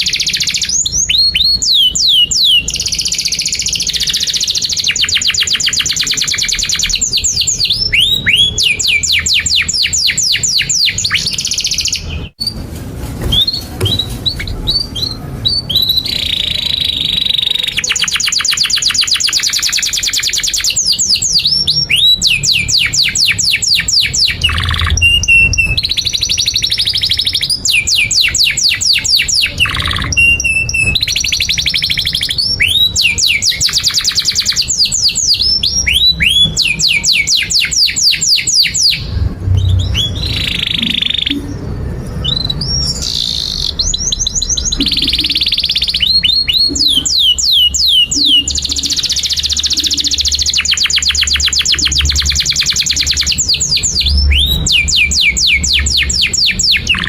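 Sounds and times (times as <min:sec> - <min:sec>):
canary singing trills and chirps: 0:00.0 - 0:12.6, 0:13.2 - 0:57.0.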